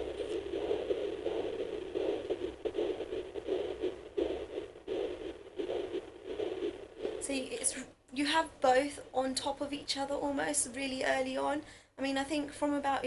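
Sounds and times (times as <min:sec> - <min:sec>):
fetal heartbeat: 0:00.0 - 0:11.1.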